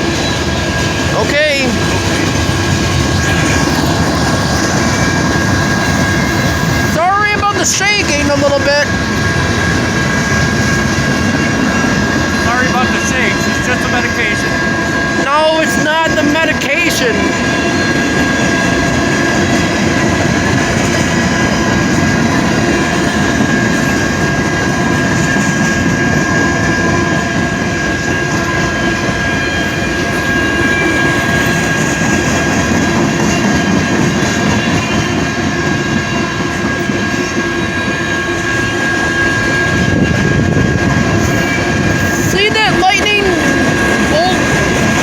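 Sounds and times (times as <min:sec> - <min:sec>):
freight train rumbling: 0:00.0 - 0:45.0.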